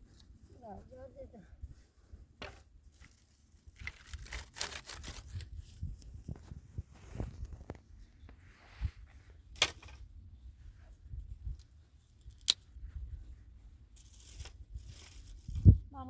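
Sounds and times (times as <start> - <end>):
scraping and rustling strokes: 1.6 - 10.0, 10.6 - 15.8.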